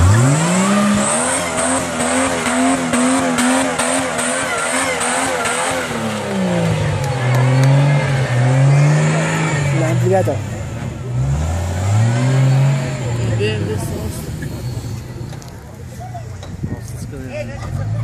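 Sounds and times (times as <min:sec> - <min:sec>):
off-road engine revving: 0:00.0 - 0:18.0.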